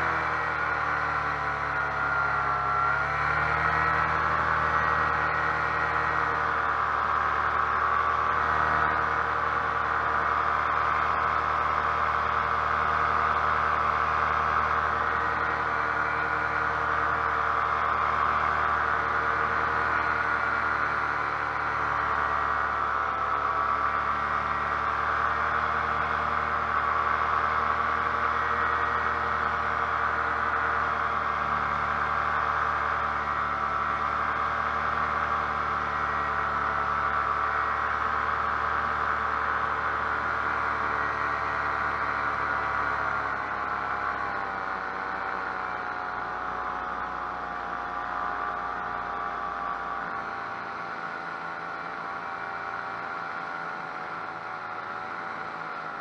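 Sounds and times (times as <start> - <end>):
paramotor engine droning: 0.0 - 56.0.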